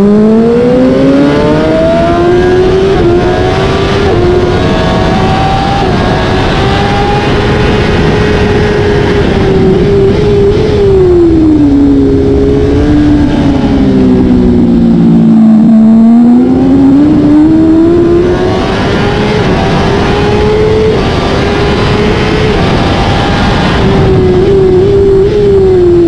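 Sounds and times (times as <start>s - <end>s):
motorcycle engine revving: 0.0s - 26.0s
wind rush over microphone: 0.0s - 26.0s.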